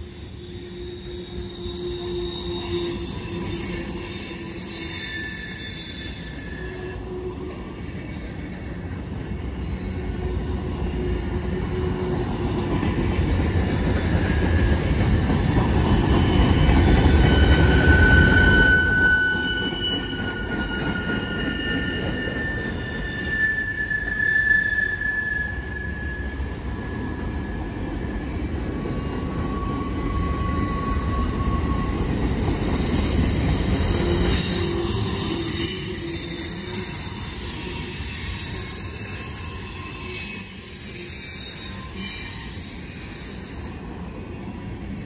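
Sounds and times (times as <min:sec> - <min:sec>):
train wheels squealing: 0:00.0 - 0:45.0.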